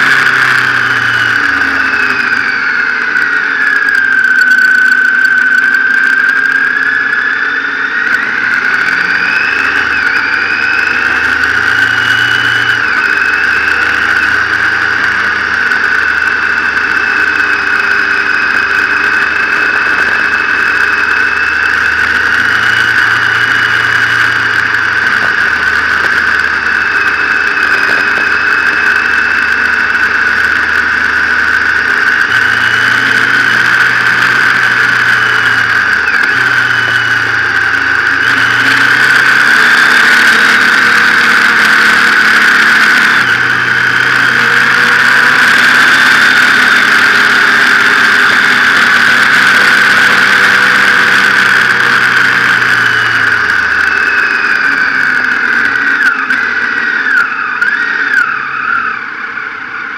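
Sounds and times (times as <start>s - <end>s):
high whine: 0.0s - 59.9s
motorcycle engine running: 0.0s - 59.9s
wind and road noise: 0.0s - 59.9s.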